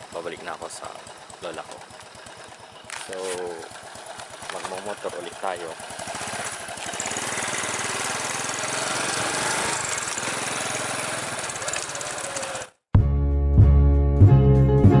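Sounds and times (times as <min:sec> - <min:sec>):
small motorcycle engine running: 0:00.0 - 0:12.8.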